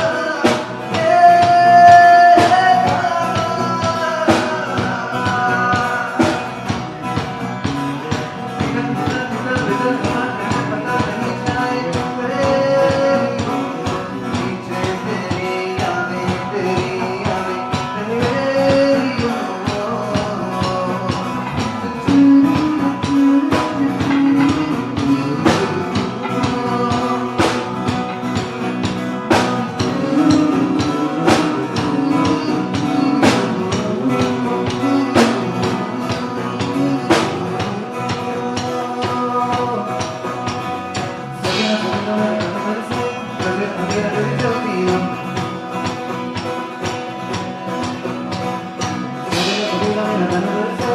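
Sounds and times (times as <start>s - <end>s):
live band playing instrumental: 0.0s - 50.9s.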